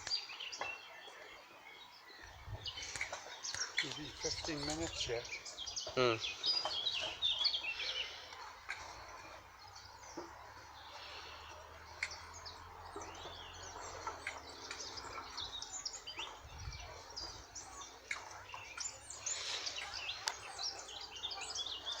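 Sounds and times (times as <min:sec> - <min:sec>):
small birds chirping and singing: 0:00.0 - 0:22.0.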